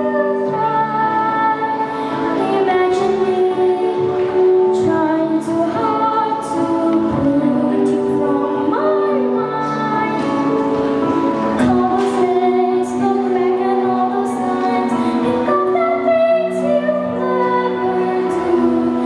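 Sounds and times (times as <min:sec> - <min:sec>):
girl singing into microphone: 0:00.0 - 0:19.0
instrumental accompaniment: 0:00.0 - 0:19.0.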